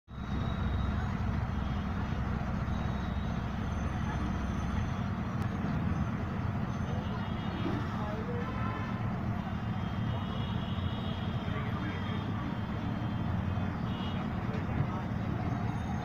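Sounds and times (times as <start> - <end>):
bus engine rumbling: 0.1 - 16.0
street traffic: 0.1 - 16.0.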